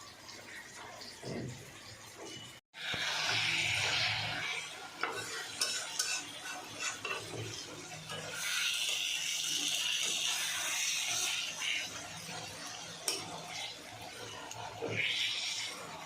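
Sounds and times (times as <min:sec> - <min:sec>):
food sizzling: 0:00.0 - 0:16.0
utensil scraping a pan: 0:02.8 - 0:15.8.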